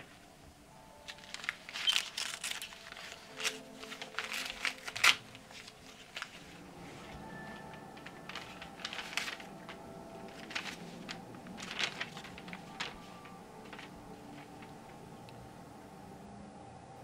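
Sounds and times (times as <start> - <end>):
paper rustling and crackling: 1.0 - 15.4.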